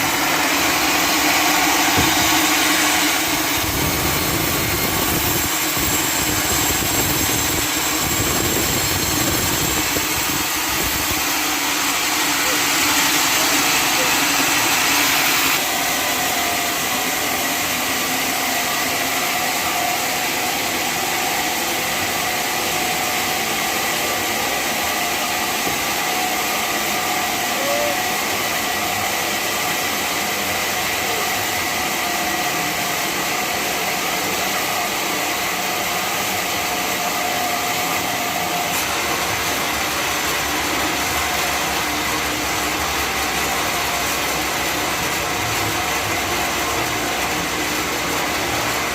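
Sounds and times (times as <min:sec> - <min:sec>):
band saw running: 0:00.0 - 0:48.9.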